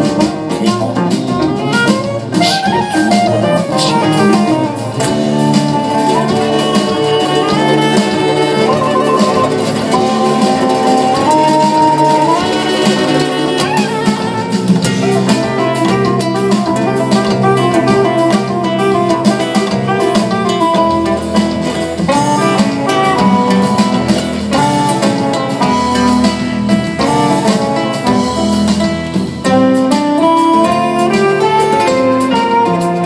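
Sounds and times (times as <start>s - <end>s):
lead guitar quick runs: 0.0s - 33.0s
live band playing: 0.0s - 33.0s.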